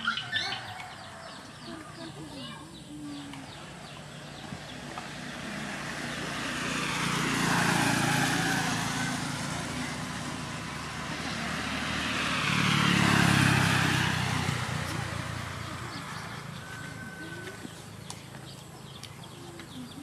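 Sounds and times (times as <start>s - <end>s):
motorbike passing: 0.0s - 20.0s
vehicles passing on road: 0.0s - 20.0s.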